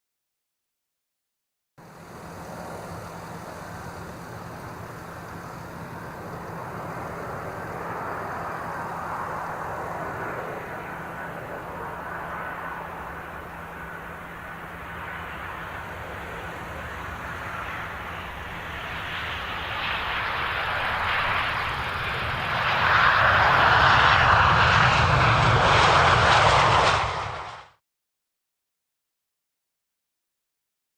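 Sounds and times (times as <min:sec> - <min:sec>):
jet engine rumble with whine: 0:01.8 - 0:27.8.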